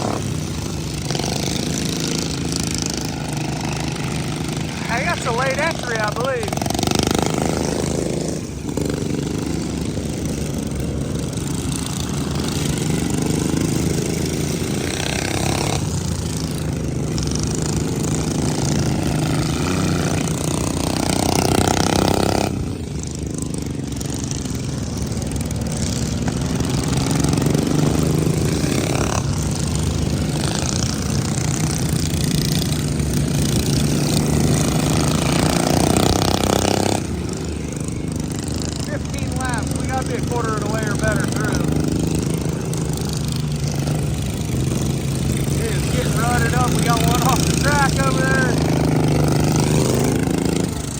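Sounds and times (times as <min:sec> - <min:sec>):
lawn mower engines racing: 0:00.0 - 0:50.9.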